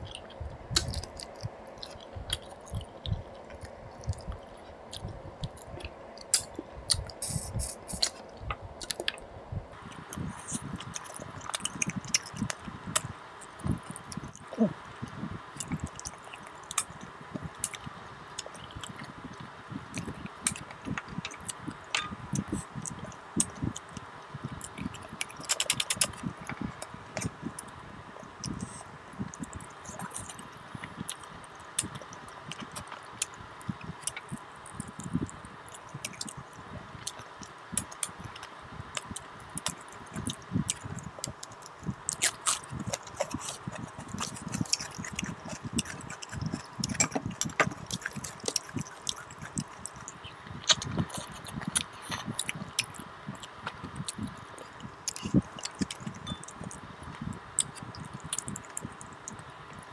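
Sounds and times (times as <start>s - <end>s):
chewing and sucking bones: 0.1s - 27.7s, 28.3s - 59.9s.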